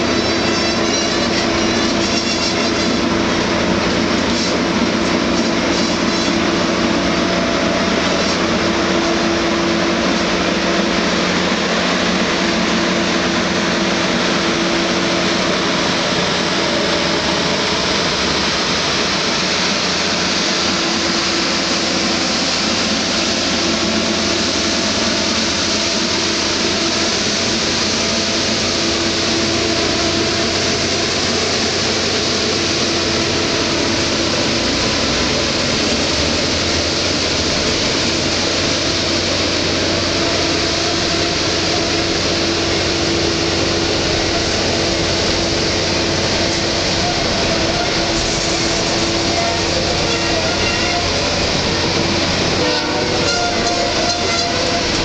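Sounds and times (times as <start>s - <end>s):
train rushing past: 0.0s - 55.0s.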